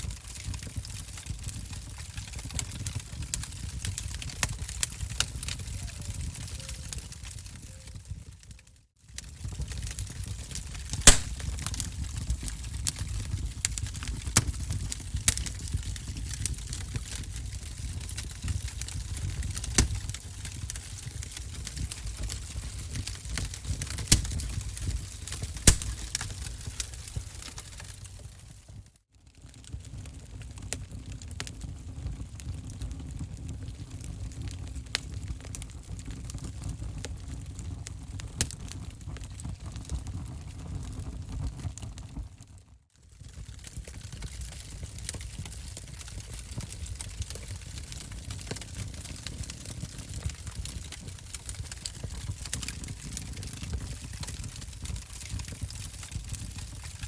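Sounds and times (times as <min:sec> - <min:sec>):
fire crackling and popping: 0:00.0 - 0:42.6, 0:43.2 - 0:57.0
low fire rumble: 0:00.0 - 0:57.0.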